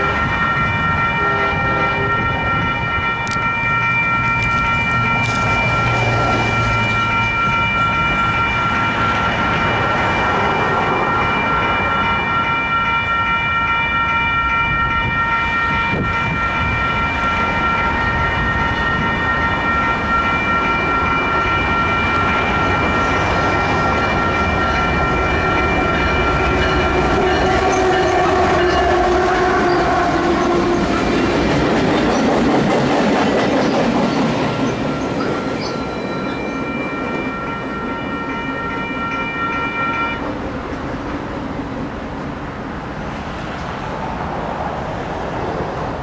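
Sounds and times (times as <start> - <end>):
crossing warning bell ringing: 0.0 - 43.6
diesel locomotive passing: 0.0 - 46.0
train wheels on rails: 0.0 - 46.0.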